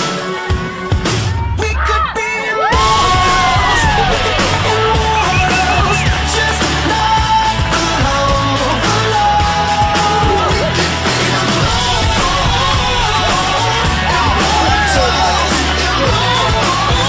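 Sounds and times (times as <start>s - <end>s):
loud music with vocals: 0.0s - 17.0s.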